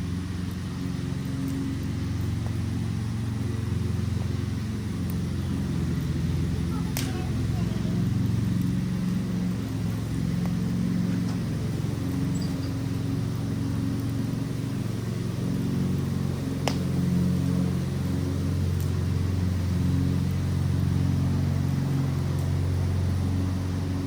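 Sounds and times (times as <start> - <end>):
fire popping: 0.0 - 23.5
low fire rumble: 0.0 - 24.0
wood fire crackling: 0.0 - 24.0.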